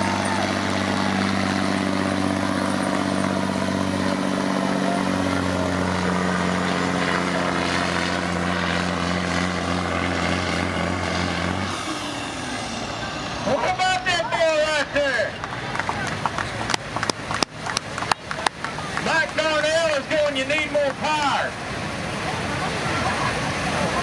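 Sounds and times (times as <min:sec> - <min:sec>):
diesel truck engine under load: 0:00.0 - 0:24.0.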